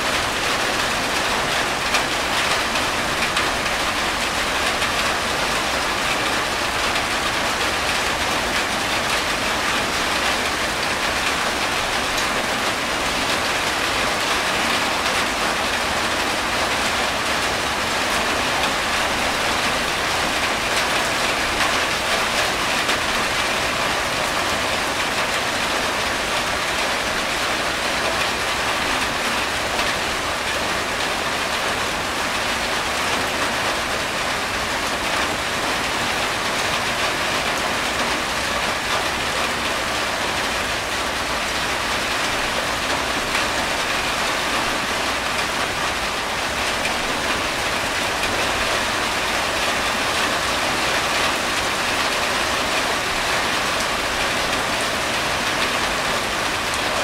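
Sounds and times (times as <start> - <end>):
rain on a tin roof: 0.0 - 57.0
water streaming off roof edge: 0.0 - 57.0.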